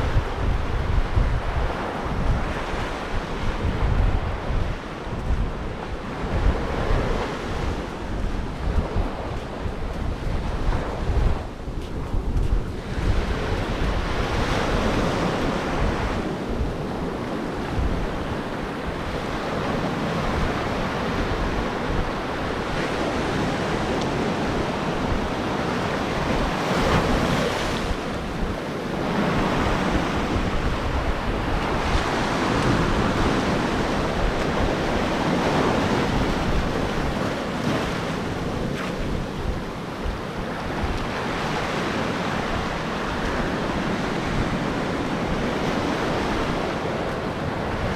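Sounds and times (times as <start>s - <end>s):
ocean waves breaking on shore: 0.0s - 47.9s
wind buffeting microphone: 0.0s - 47.9s.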